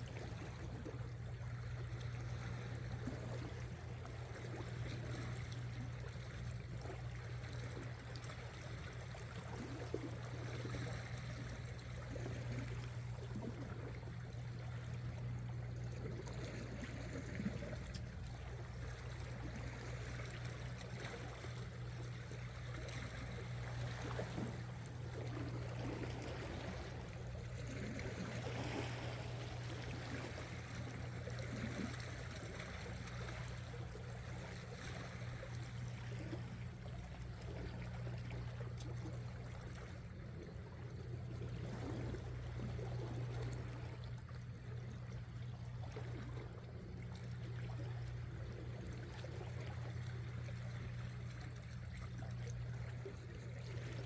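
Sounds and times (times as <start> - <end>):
small splashes: 0.0 - 54.0
steady low hum: 0.0 - 54.0
water lapping among rocks: 0.0 - 54.0.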